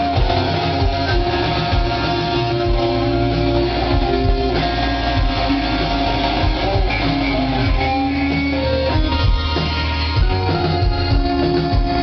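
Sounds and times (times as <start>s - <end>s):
electric guitars: 0.0s - 12.0s
rock band playing loud: 0.0s - 12.0s.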